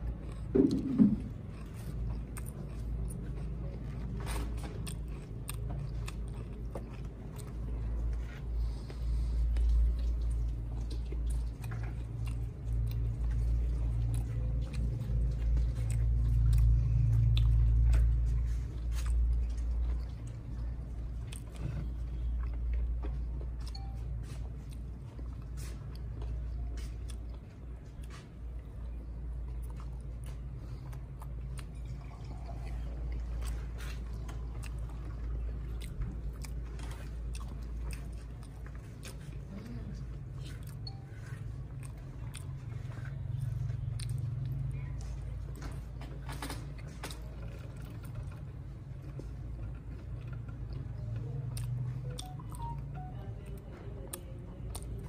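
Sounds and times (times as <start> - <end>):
close chewing and biting: 0.0 - 55.0.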